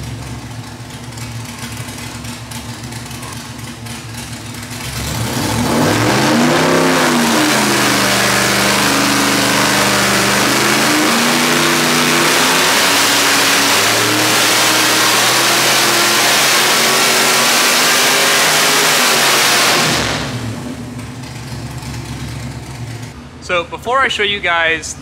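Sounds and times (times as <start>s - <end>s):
engine running loud under load: 0.0s - 23.8s.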